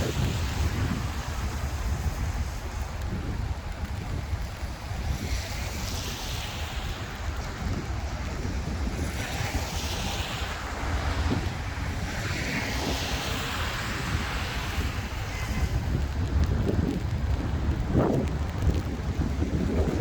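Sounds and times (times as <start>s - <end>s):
steady rushing noise: 0.0s - 20.0s
wind buffeting microphone: 0.0s - 20.0s.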